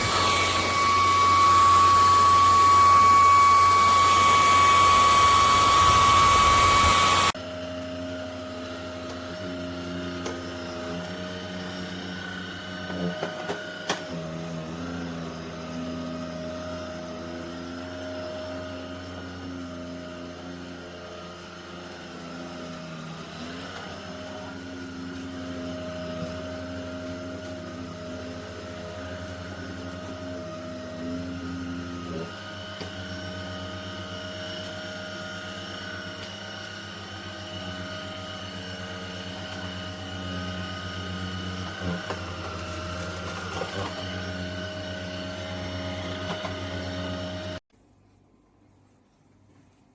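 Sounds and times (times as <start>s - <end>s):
stick vacuum cleaner running: 0.0s - 47.7s.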